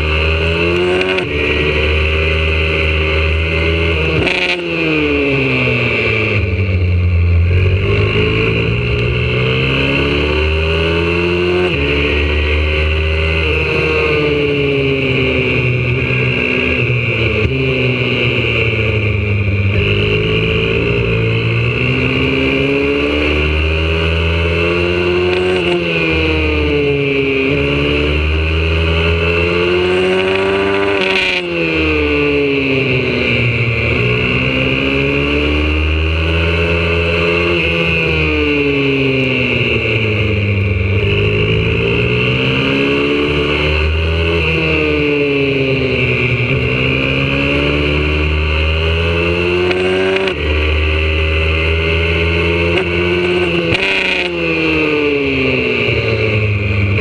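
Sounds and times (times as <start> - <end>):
single-cylinder motorbike engine: 0.0 - 57.0.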